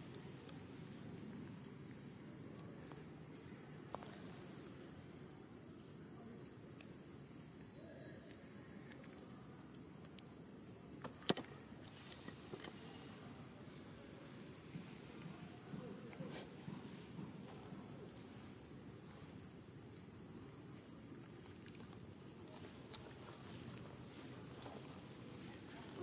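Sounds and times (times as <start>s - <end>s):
insects trilling: 0.0s - 26.0s
low background noise: 0.0s - 26.0s.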